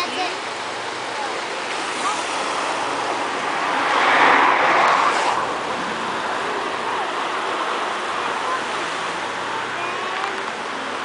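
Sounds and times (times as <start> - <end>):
waves washing over rocks: 0.4 - 11.0.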